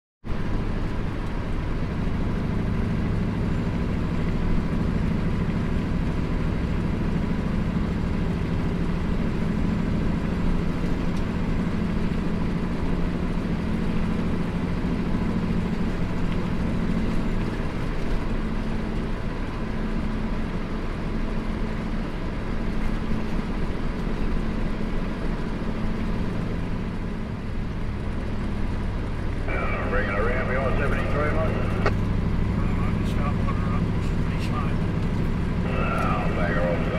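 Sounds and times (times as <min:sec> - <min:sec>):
diesel truck engine droning: 0:00.2 - 0:36.9
tyre and road noise: 0:00.2 - 0:36.9.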